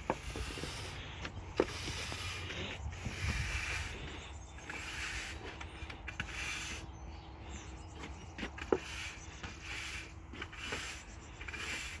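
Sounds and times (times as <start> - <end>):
push broom sweeping sand on pavers: 0.0 - 12.0.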